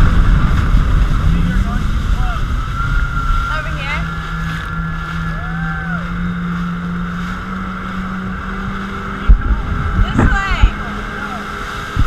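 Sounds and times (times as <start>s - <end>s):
jet ski engine running: 0.0s - 12.0s
wind: 0.0s - 12.0s.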